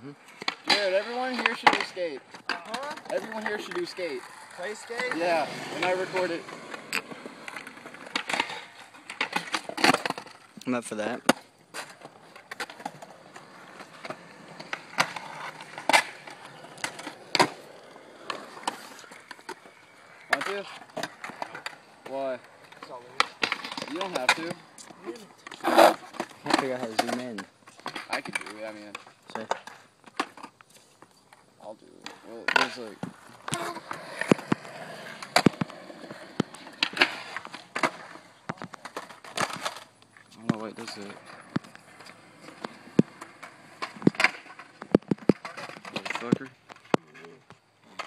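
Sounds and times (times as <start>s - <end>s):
skateboards rolling on concrete: 0.0s - 48.0s
skateboards clacking on ground: 0.2s - 48.0s.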